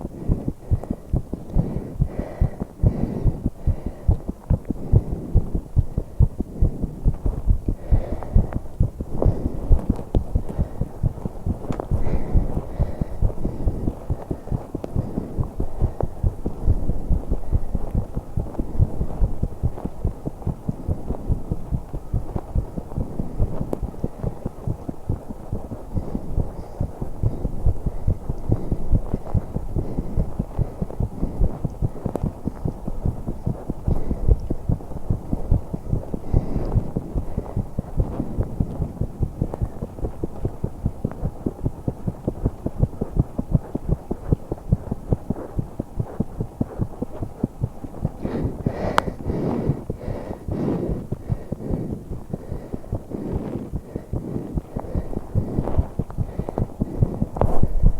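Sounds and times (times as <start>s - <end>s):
breathing: 0.0s - 57.9s
fast heartbeat: 0.0s - 57.9s.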